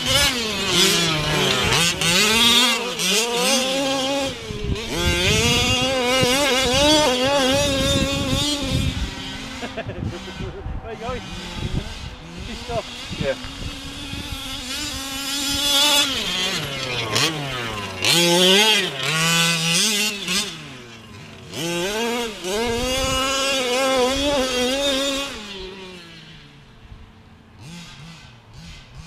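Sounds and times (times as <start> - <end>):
small two-stroke engine revving: 0.0 - 29.0.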